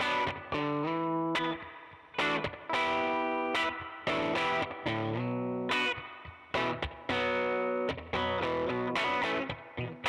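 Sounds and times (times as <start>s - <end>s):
distorted electric guitar chords: 0.0s - 10.0s.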